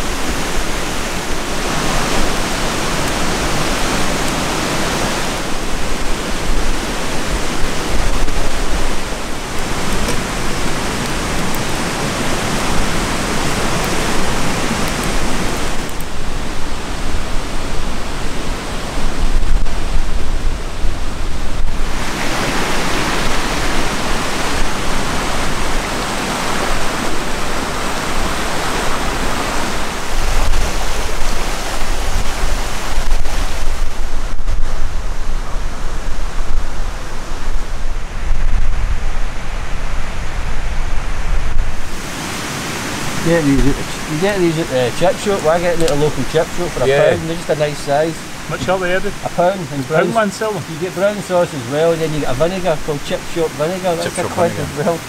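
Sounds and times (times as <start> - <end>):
wind rumble on microphone: 0.0 - 44.1.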